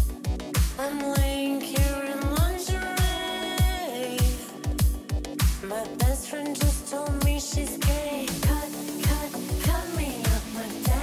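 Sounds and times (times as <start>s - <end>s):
deep kick drum: 0.0s - 11.0s
person singing: 0.8s - 11.0s.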